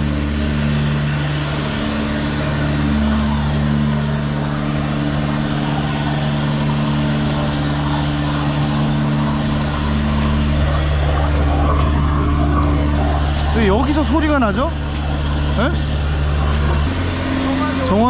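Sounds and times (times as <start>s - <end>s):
jetter engine and pump hum: 0.0s - 18.0s
water rushing through drain: 0.0s - 18.0s.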